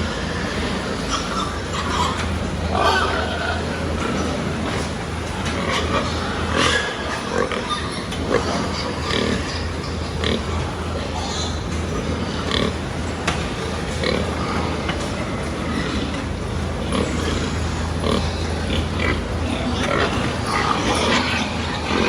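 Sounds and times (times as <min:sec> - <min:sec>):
pigs grunting and squealing: 0:00.0 - 0:22.0.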